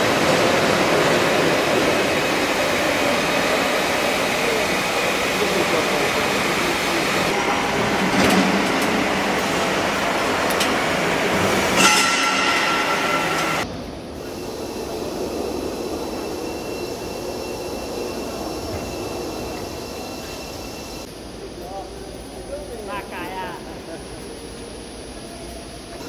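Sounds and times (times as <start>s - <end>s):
rushing machine noise: 0.0s - 21.2s
steady hum with high tone: 0.0s - 26.0s.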